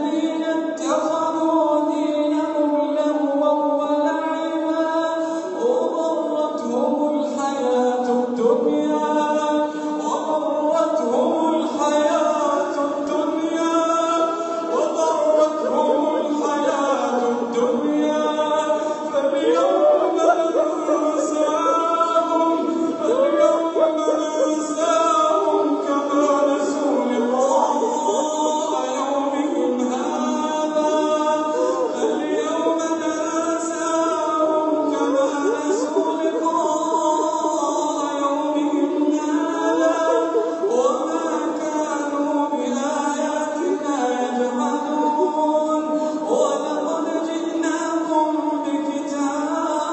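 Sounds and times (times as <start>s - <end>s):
person chanting melodic recitation: 0.0s - 49.9s.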